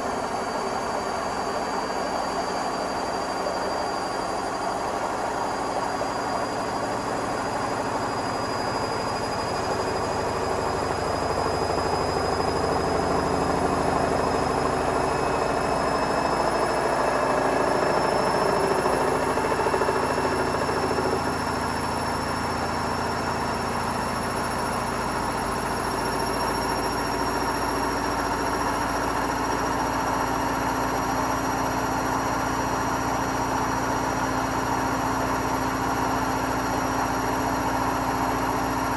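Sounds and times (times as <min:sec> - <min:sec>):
washing machine drum spinning: 0:04.8 - 0:38.9.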